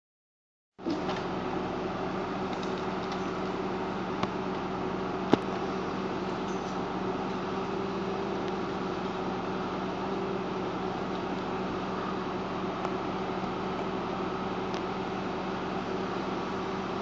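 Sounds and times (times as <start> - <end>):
tractor diesel engine running: 0.8 - 17.0.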